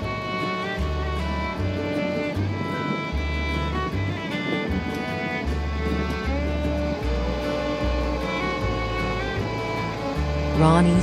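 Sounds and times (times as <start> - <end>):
bowed strings sustained notes: 0.0 - 11.0
low bass line: 0.0 - 11.0.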